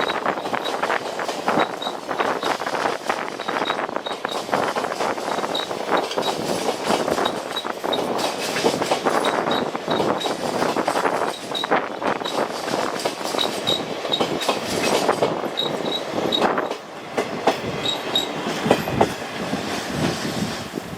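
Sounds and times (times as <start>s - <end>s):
train wheels knocking over rail joints: 0.0s - 20.2s.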